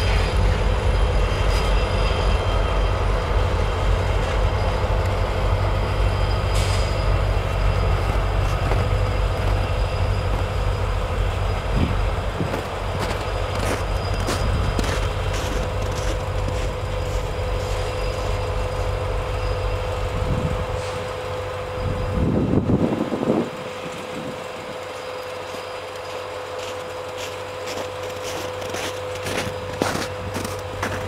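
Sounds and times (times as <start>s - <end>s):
freight train cars rumbling: 0.0s - 31.0s
train knocks: 0.0s - 31.0s
wheel and brake squeal: 1.2s - 3.4s, 4.2s - 22.2s, 24.8s - 31.0s.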